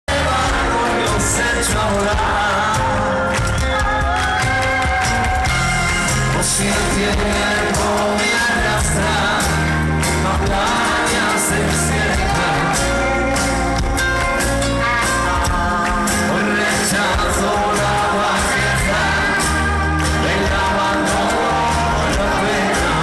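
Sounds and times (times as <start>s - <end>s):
lead vocal singing: 0.0s - 23.0s
pop-rock band playing: 0.1s - 23.0s.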